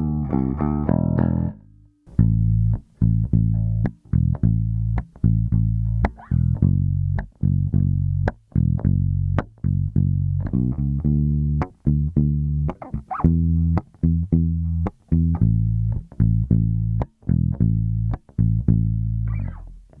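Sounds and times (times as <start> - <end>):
electric bass plucked notes: 0.0 - 20.0.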